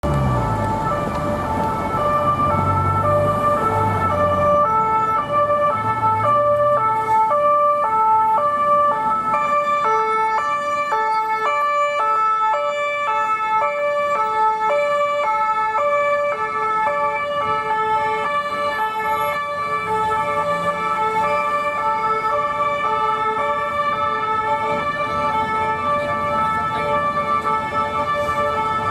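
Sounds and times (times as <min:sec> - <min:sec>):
two-tone police sirens: 0:00.0 - 0:28.9.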